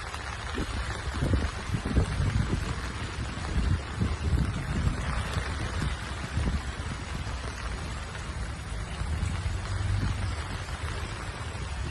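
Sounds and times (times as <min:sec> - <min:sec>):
storm wind buffeting microphone: 0:00.0 - 0:11.9.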